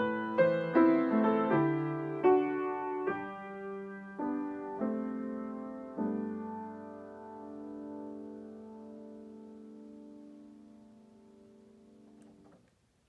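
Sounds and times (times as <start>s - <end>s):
slow solo piano: 0.0s - 12.7s.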